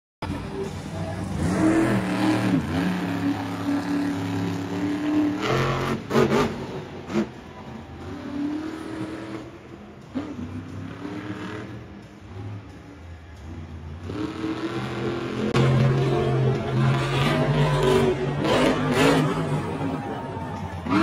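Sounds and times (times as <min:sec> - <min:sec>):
truck engine revving: 0:00.2 - 0:21.0.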